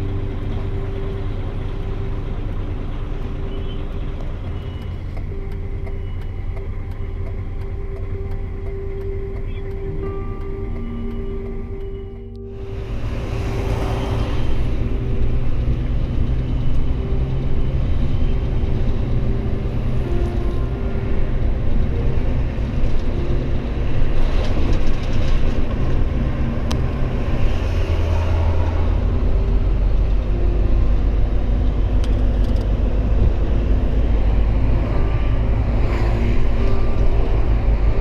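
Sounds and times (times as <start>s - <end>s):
road noise: 0.0s - 38.0s
truck engine droning: 0.0s - 38.0s.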